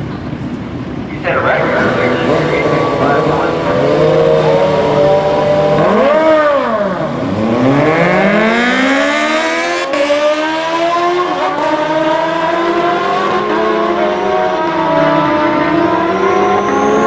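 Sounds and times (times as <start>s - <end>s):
racing engine revving: 1.2s - 17.0s.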